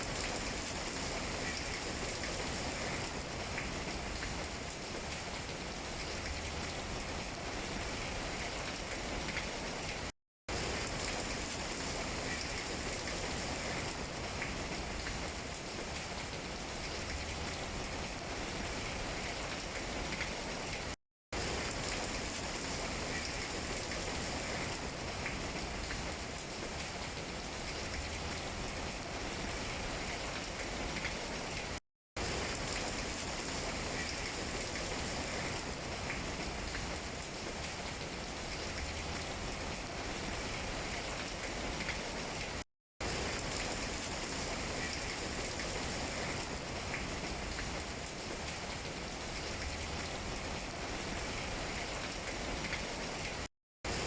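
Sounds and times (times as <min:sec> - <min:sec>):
rain on tree leaves: 0:00.0 - 0:54.0.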